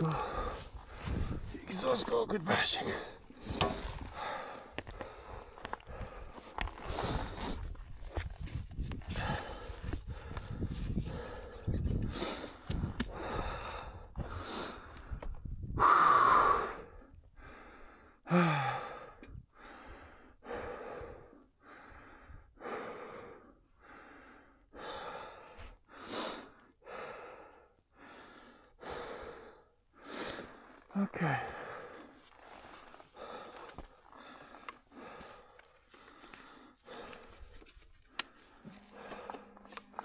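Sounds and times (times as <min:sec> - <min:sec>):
person panting: 0:00.0 - 0:01.5, 0:02.8 - 0:07.6, 0:09.0 - 0:15.2, 0:15.8 - 0:40.0.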